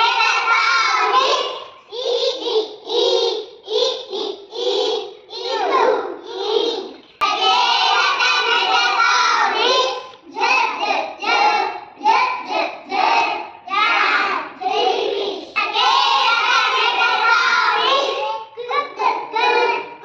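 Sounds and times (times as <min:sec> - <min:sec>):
young children singing: 0:00.0 - 0:20.0.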